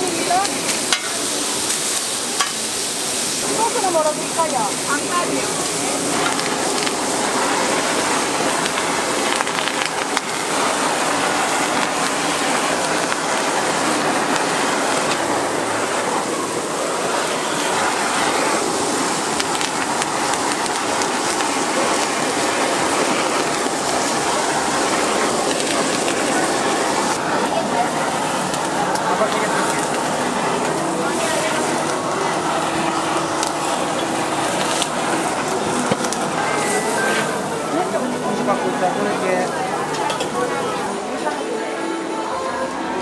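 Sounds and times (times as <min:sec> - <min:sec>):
butane torch hissing: 0:00.0 - 0:41.3
griddle sizzling: 0:00.0 - 0:43.0.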